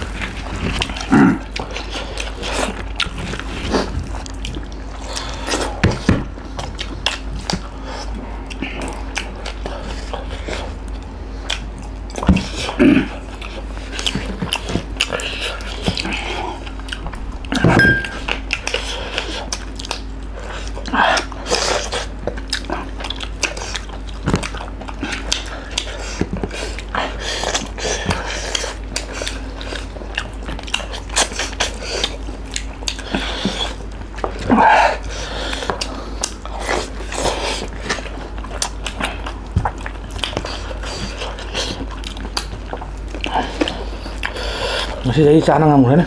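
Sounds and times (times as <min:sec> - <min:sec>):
people chewing and biting: 0:00.0 - 0:46.0.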